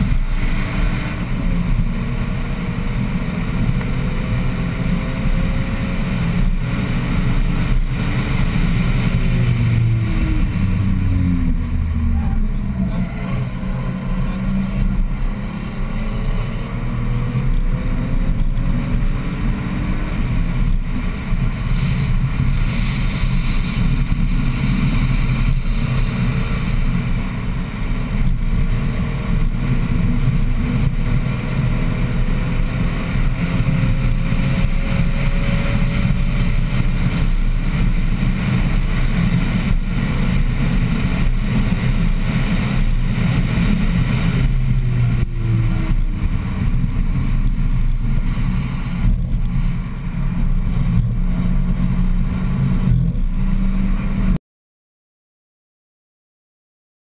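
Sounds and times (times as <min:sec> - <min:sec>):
car engine accelerating: 0:00.0 - 0:54.4
road and tyre rumble: 0:00.0 - 0:54.4.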